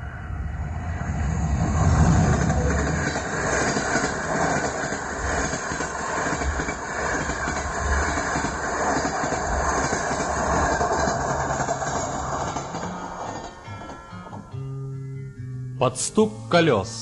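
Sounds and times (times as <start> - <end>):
train rumbling on rails: 0.0 - 14.6.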